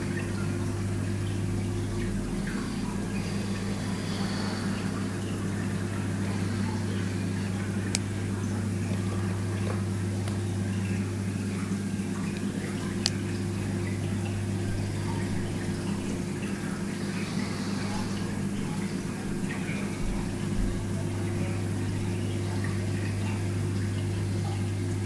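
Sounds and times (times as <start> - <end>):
aquarium pump humming: 0.0 - 25.0
water bubbling and trickling: 0.0 - 25.0.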